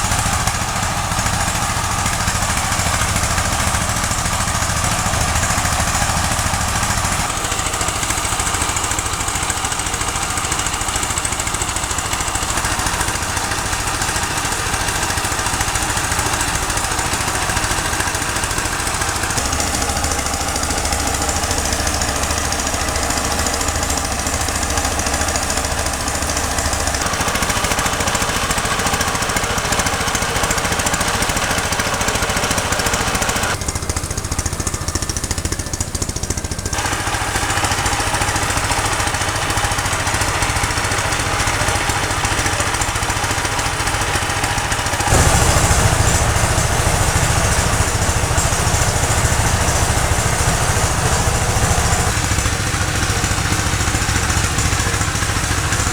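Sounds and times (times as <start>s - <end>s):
small engine rattling: 0.0s - 55.9s.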